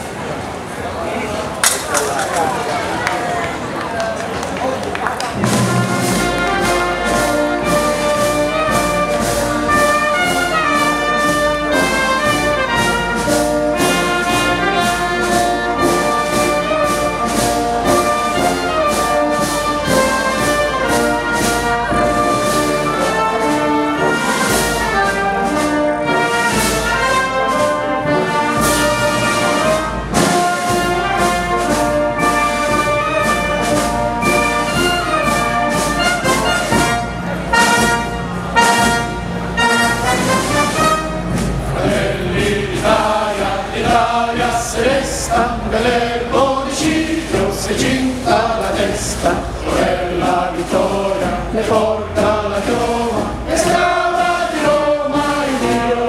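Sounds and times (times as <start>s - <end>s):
wind band playing: 5.4s - 56.0s.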